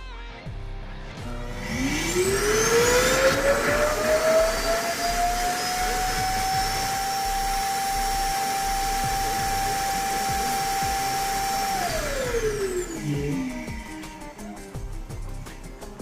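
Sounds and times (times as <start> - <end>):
robot vacuum running: 1.2 - 15.2.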